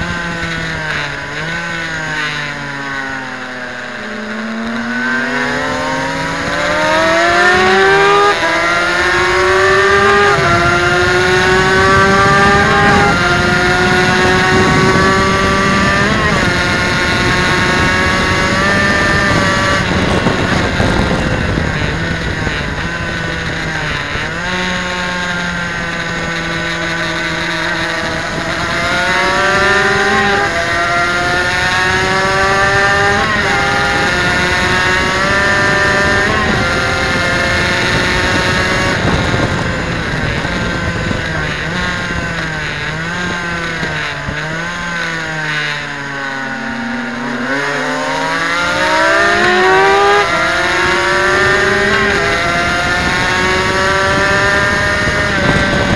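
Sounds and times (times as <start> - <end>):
motorcycle engine revving: 0.0 - 55.9
wind rush: 5.1 - 46.2, 46.9 - 55.9.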